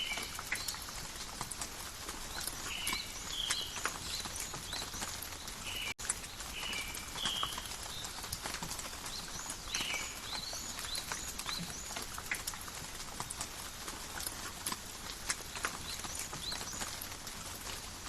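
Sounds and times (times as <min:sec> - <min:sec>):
small birds chirping: 0:00.0 - 0:01.2, 0:02.1 - 0:12.8, 0:15.3 - 0:18.0
light rain in a forest: 0:00.0 - 0:18.0
raindrops ticking: 0:00.0 - 0:18.0.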